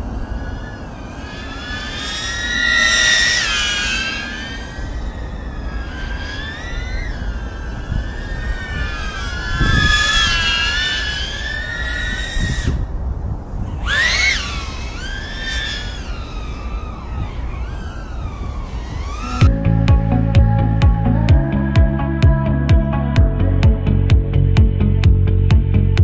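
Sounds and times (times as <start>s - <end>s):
drone motors whining: 0.0s - 22.4s
wind rush on microphone: 0.0s - 26.0s.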